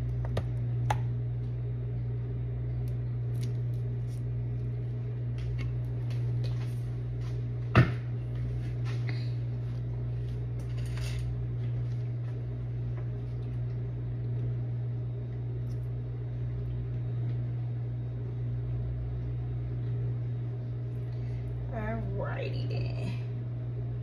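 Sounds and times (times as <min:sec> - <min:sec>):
microwave vent fan humming: 0:00.0 - 0:24.0.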